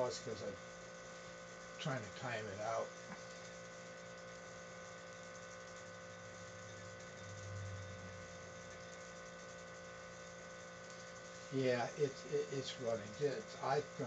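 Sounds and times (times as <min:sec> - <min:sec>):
electrical hum with faint hiss: 0:00.0 - 0:14.0.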